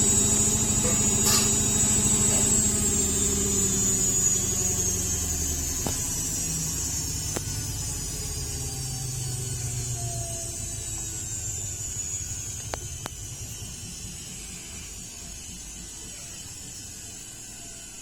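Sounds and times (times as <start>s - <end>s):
washing machine motor whine: 0.0s - 18.0s.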